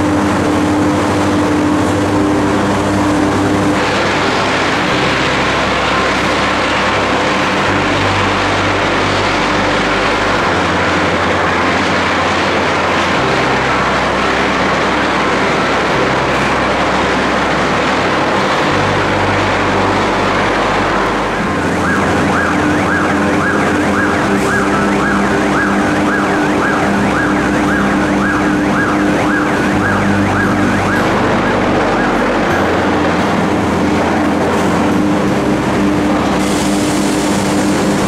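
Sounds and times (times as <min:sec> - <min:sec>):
loud machinery noise: 0:00.0 - 0:38.0
warning siren rising tone: 0:00.0 - 0:38.0.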